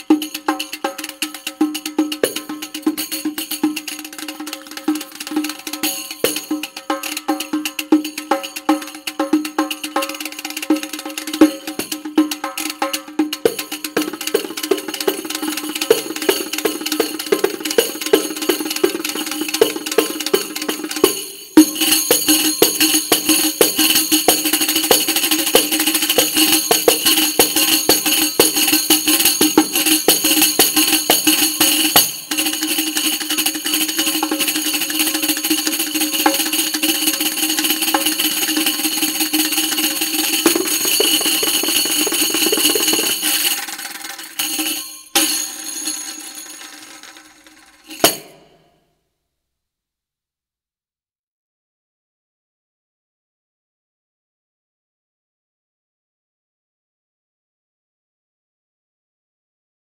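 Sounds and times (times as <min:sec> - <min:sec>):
frame tambourine with jingles: 0:00.0 - 0:48.8.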